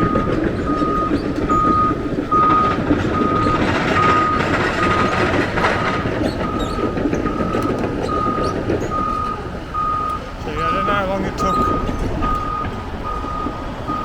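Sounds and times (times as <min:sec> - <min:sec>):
diesel engine rumble: 0:00.0 - 0:14.0
reversing alarm beeping: 0:00.0 - 0:14.0.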